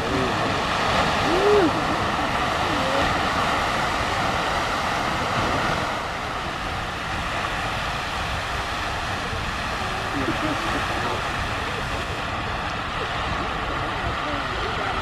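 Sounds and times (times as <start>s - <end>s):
geyser water and steam hissing: 0.0s - 15.0s.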